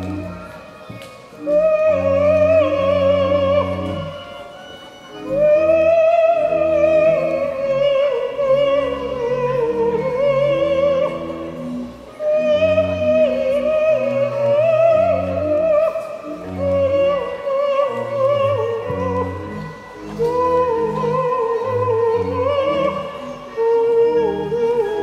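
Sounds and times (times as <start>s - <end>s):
wavering melody with vibrato: 0.0s - 25.0s.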